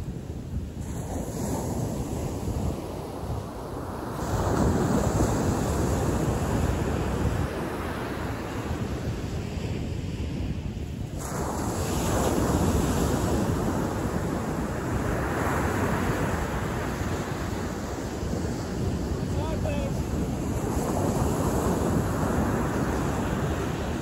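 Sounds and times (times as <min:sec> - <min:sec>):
ocean surf breaking on beach: 0:00.0 - 0:24.0
wind buffeting microphone: 0:00.0 - 0:24.0.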